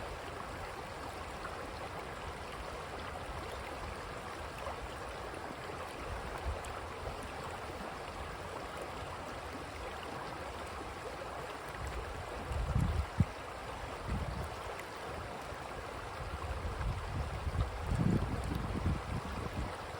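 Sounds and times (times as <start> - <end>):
creek water running: 0.0 - 19.9.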